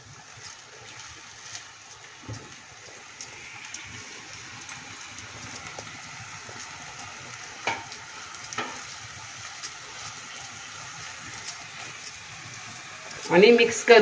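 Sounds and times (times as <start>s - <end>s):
rice sizzling in a pan: 0.0s - 14.0s
spatula scraping ticks: 0.4s - 14.0s.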